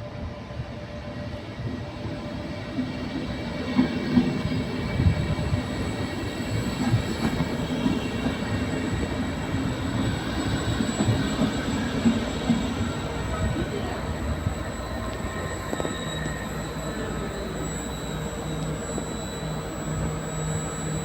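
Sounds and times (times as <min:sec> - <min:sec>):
passenger train rumbling past: 0:00.0 - 0:21.0.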